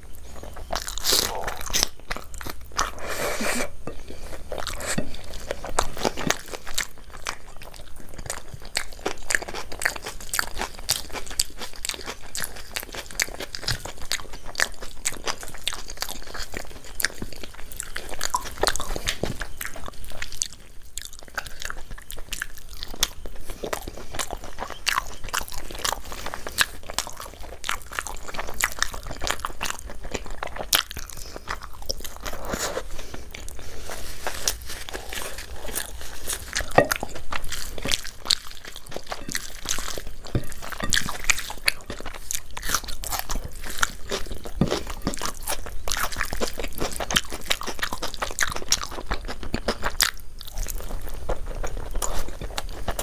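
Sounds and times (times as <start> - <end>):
person chewing and crunching food: 0.0 - 53.0.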